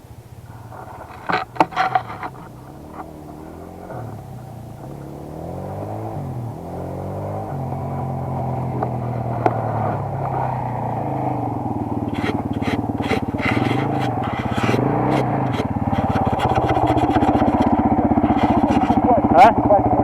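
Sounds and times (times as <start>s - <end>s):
motorcycle engine revving: 0.0s - 20.0s
knocks and scrapes from trail: 0.5s - 19.2s.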